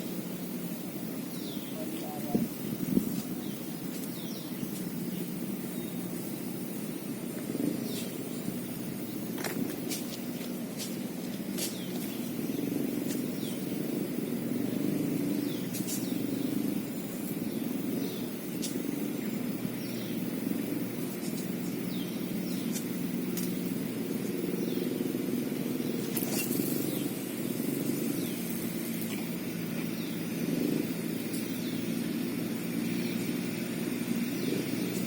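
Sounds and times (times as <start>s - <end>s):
steady low rumble: 0.0s - 35.0s
bird chirps: 1.2s - 9.5s, 11.2s - 14.0s, 14.6s - 25.1s, 25.8s - 35.0s.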